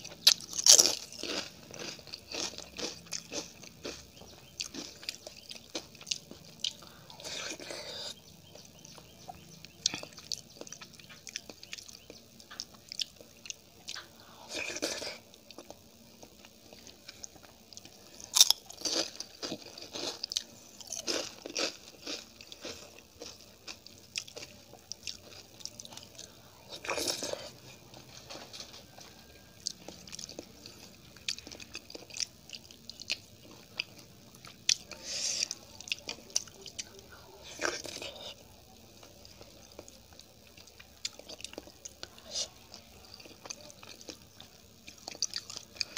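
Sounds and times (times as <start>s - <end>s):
crunching and chewing fried food: 0.0s - 45.9s.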